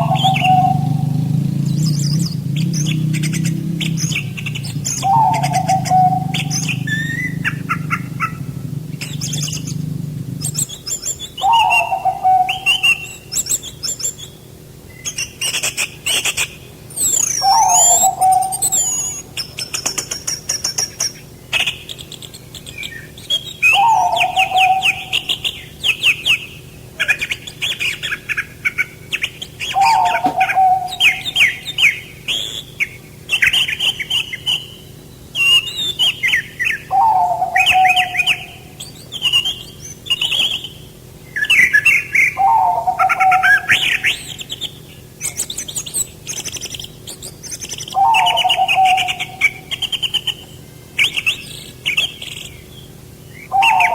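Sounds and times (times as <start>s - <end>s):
songbird singing trilled phrase: 0.0s - 53.9s.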